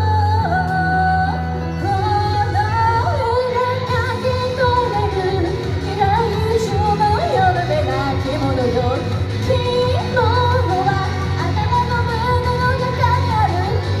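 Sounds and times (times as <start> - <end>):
backing track: 0.0 - 14.0
woman singing pop song: 0.0 - 14.0.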